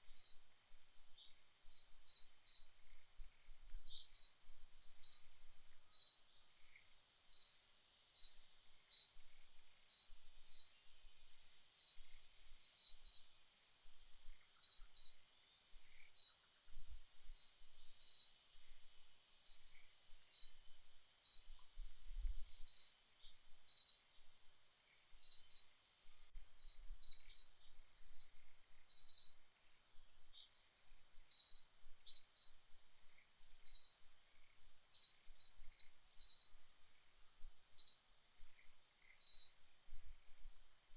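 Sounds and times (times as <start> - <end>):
bird chirping: 0.0 - 0.5, 1.1 - 5.3, 5.9 - 11.1, 11.8 - 13.3, 14.2 - 18.4, 19.4 - 21.8, 22.4 - 25.8, 26.6 - 29.4, 30.2 - 36.6, 37.3 - 39.6.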